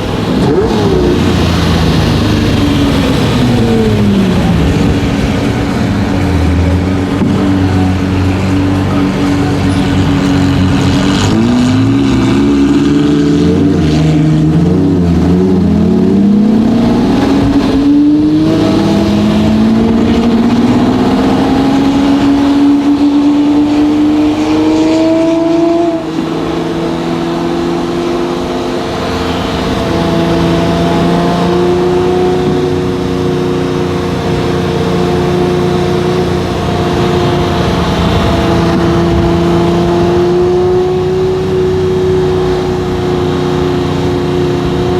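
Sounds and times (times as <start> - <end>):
sports car engine accelerating: 0.0 - 44.9.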